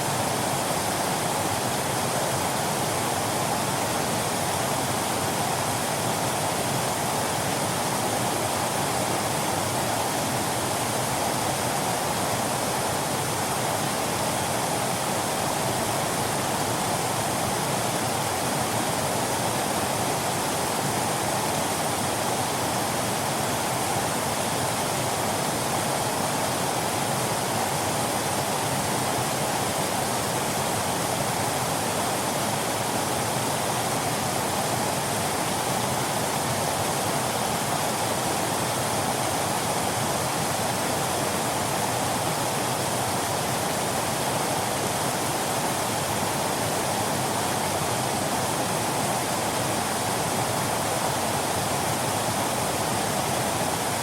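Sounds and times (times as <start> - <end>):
waterfall splashing: 0.0 - 54.0.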